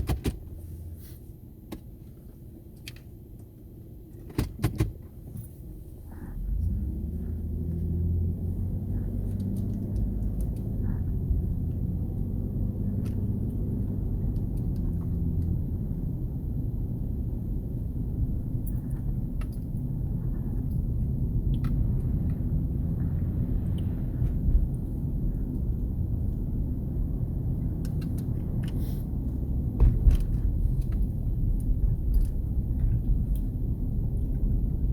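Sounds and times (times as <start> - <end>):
vehicle engine rumbling: 0.0 - 34.9
light clicks and rattles: 1.7 - 16.3, 16.9 - 34.9.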